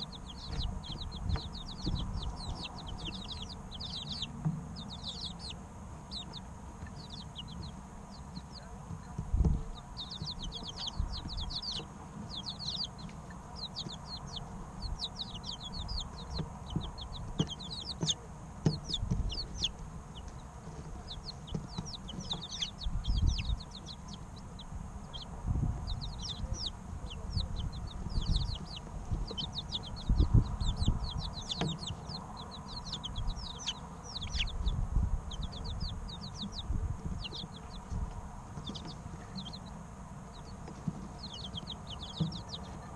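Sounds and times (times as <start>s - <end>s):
dull low thumps: 0.0s - 7.8s, 8.8s - 13.0s, 13.6s - 39.2s
chicks peeping: 0.0s - 42.9s.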